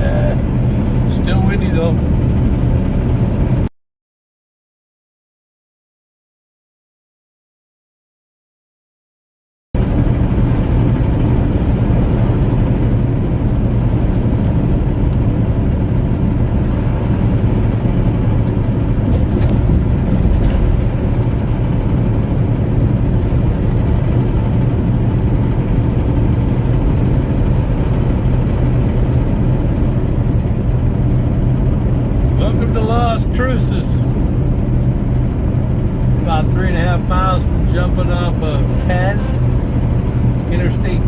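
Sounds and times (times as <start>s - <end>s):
diesel engine drone: 0.0s - 3.7s, 9.8s - 41.0s
road and wind noise: 0.0s - 3.7s, 9.8s - 41.0s.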